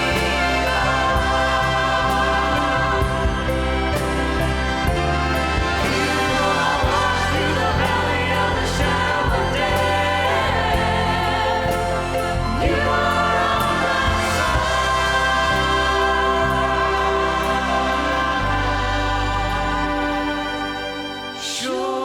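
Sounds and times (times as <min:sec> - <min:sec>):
church choir singing: 0:00.0 - 0:22.0
orchestral accompaniment: 0:00.0 - 0:22.0.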